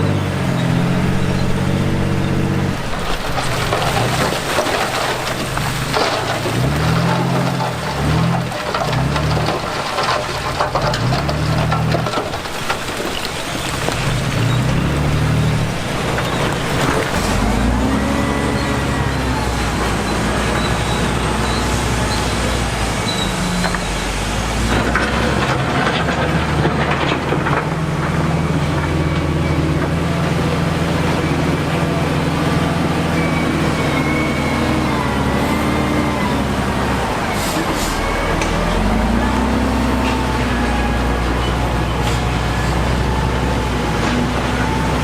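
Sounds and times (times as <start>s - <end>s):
diesel engine of heavy machinery: 0.0s - 45.0s.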